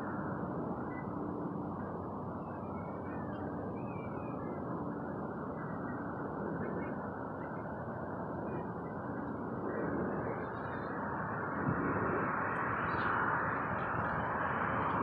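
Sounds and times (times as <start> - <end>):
distant engine roar: 0.0 - 15.0.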